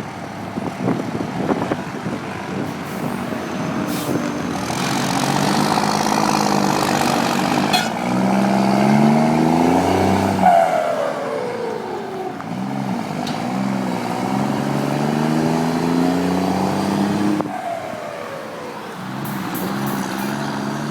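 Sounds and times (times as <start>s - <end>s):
diesel truck engine pulling away: 0.0s - 20.9s.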